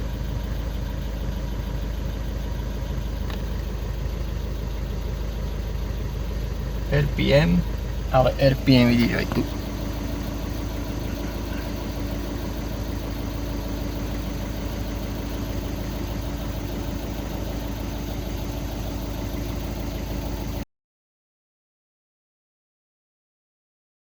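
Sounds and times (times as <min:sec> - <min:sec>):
diesel engine idling: 0:00.0 - 0:20.6.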